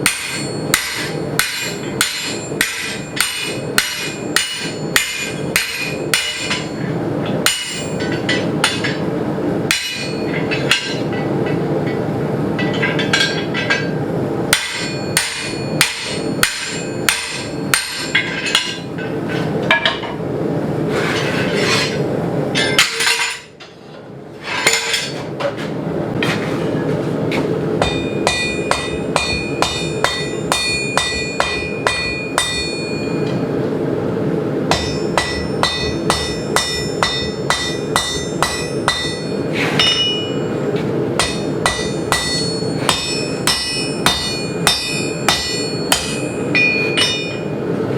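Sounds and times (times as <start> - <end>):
hammer striking steel on anvil: 0.0 - 20.2, 22.6 - 23.7, 27.8 - 33.5, 34.7 - 47.6.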